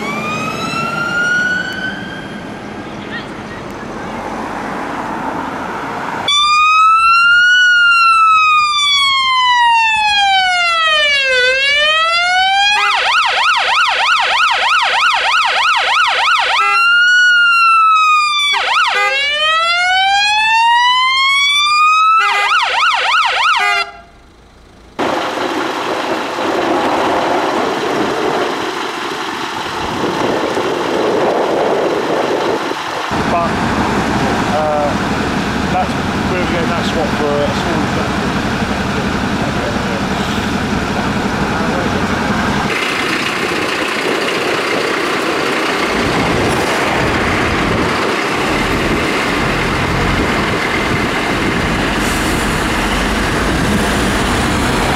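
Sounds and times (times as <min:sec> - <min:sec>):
fire engine siren wailing and yelping: 0:00.0 - 0:24.2, 0:25.0 - 0:54.9
engine and road noise rumble: 0:00.0 - 0:54.9.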